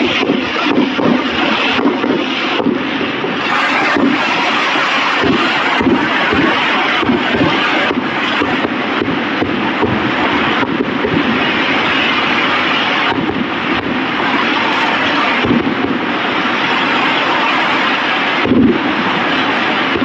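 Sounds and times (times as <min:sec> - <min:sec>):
fireworks bangs and crackling: 0:00.0 - 0:20.0
sharp firework bangs: 0:00.0 - 0:20.0.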